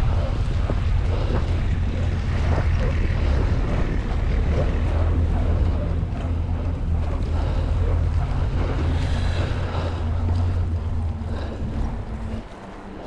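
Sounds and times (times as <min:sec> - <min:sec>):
bike tyres crunching snow: 0:00.0 - 0:13.0
wind rumbling on microphone: 0:00.0 - 0:13.0.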